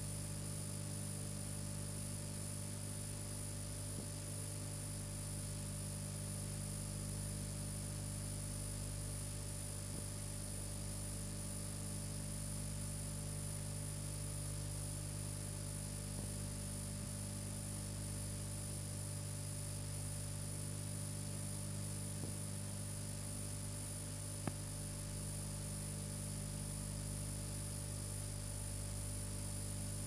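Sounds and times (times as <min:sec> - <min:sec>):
electrical hum and hiss: 0:00.0 - 0:30.0.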